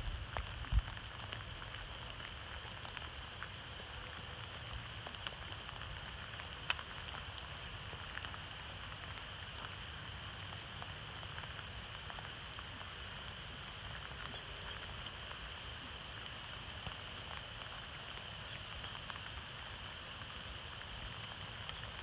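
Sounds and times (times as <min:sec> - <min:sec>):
faint ticks: 0:00.3 - 0:19.4, 0:20.2 - 0:22.0.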